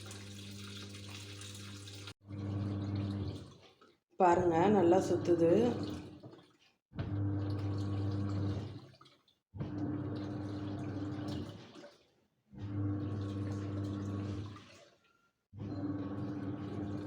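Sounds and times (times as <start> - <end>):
washing machine motor hum: 0.0 - 3.6, 4.2 - 6.4, 7.0 - 9.0, 9.6 - 14.9, 15.5 - 17.0
water churning: 0.0 - 15.1.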